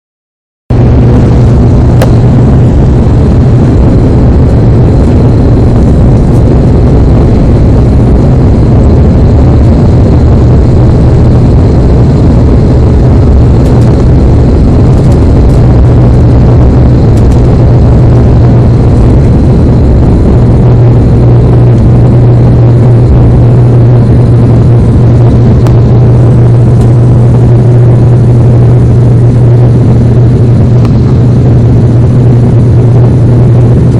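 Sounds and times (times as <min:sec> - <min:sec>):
light aircraft engine drone: 0:00.7 - 0:33.9
rushing noise: 0:00.7 - 0:33.9.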